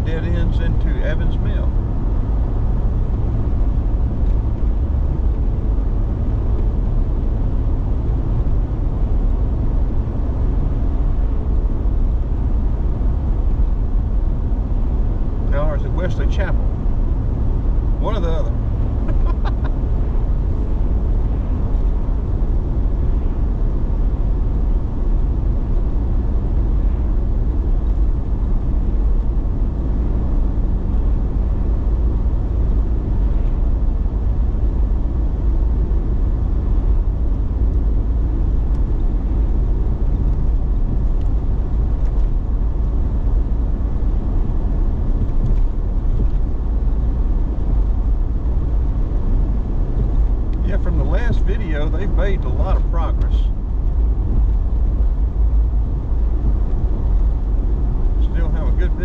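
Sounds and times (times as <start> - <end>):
car road noise from inside: 0.0 - 59.0.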